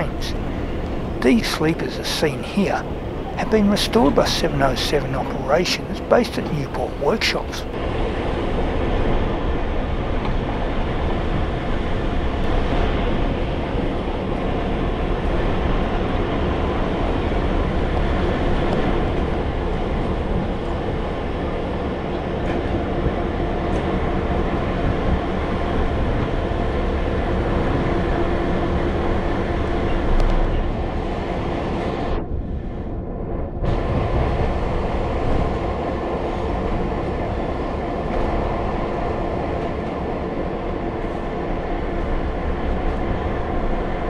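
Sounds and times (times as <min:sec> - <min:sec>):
train carriage rumbling on rails: 0:00.0 - 0:44.0.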